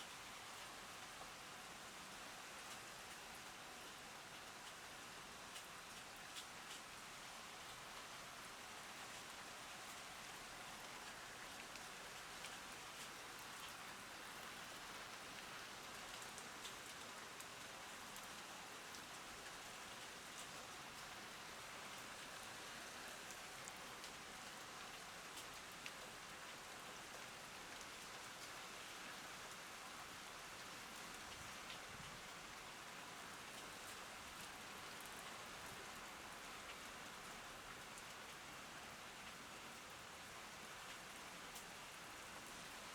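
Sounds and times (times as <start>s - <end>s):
rain falling on plants: 0.0s - 42.9s.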